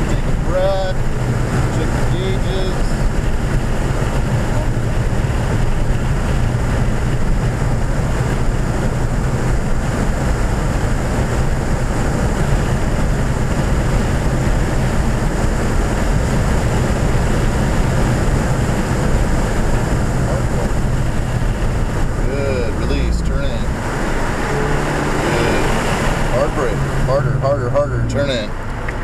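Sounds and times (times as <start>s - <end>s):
car engine running: 0.0s - 29.0s
wind and tyre noise: 0.0s - 29.0s.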